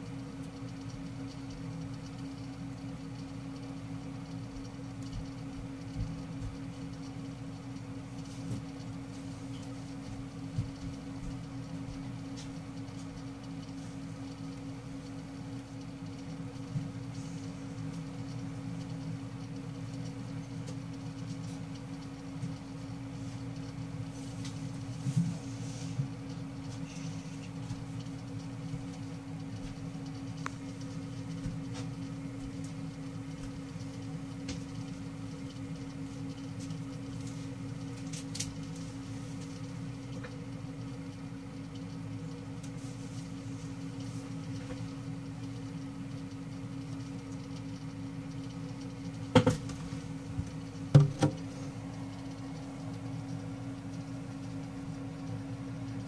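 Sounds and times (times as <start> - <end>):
faint clicks and scratches: 0.0 - 56.0.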